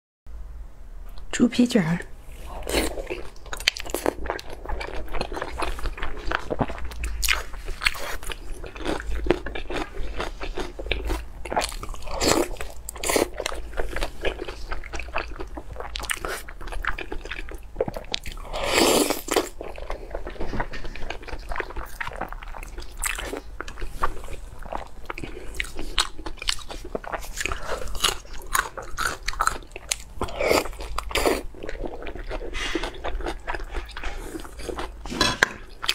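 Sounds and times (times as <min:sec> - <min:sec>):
person eating crunchy food: 0:02.3 - 0:35.9.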